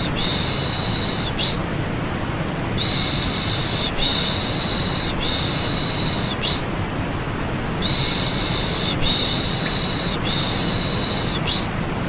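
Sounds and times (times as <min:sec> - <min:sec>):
white noise rush: 0:00.0 - 0:12.0.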